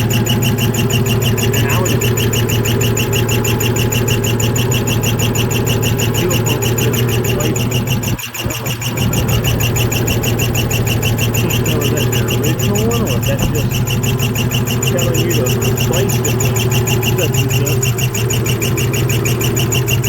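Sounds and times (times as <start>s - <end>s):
drive belt squealing: 0.0s - 20.0s
engine idling: 0.0s - 20.0s.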